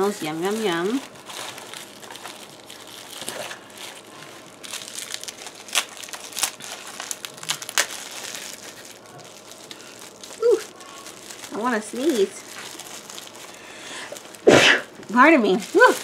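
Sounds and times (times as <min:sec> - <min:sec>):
paper shred rustling and crinkling: 0:00.0 - 0:16.0.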